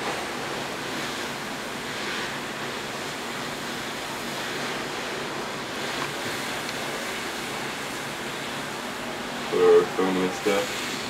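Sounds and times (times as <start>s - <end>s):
water hissing on hot metal: 0.0s - 11.0s.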